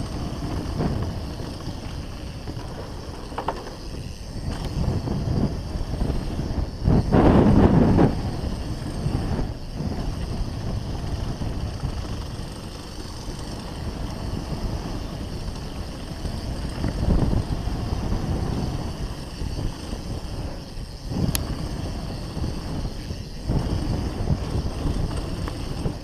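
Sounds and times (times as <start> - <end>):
bike tyres on dirt trail: 0.0 - 26.0
wind on microphone: 0.0 - 26.0.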